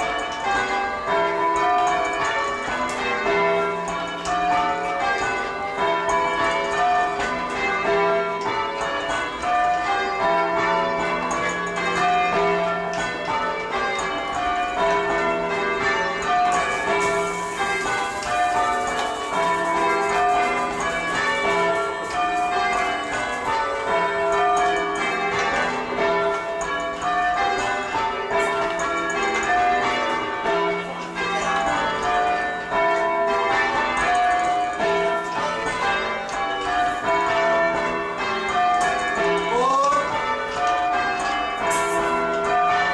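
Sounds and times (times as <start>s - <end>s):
church bells change ringing: 0.0s - 42.9s.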